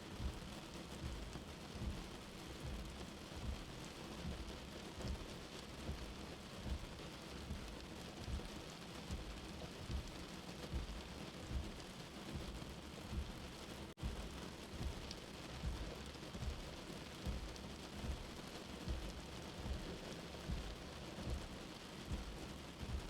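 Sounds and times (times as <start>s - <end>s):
steady rain: 0.0s - 23.0s
low heartbeat thumping: 0.1s - 23.0s.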